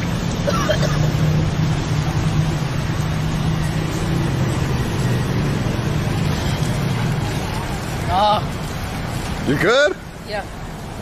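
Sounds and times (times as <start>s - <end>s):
rushing noise: 0.0s - 11.0s.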